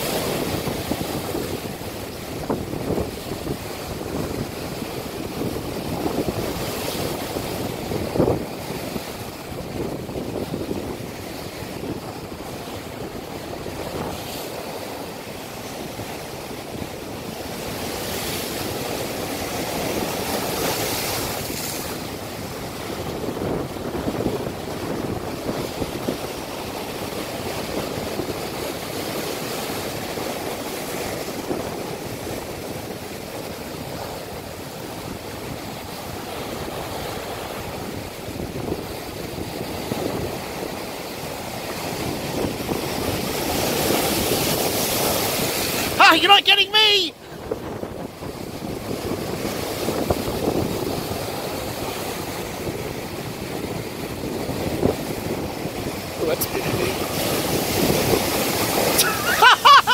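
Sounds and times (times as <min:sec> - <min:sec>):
ocean waves breaking over rocks: 0:00.0 - 0:59.9.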